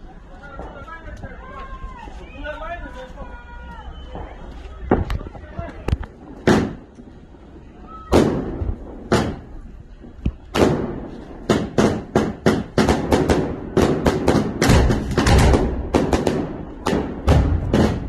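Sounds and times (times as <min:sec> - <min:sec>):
fireworks bangs: 0:00.1 - 0:18.0.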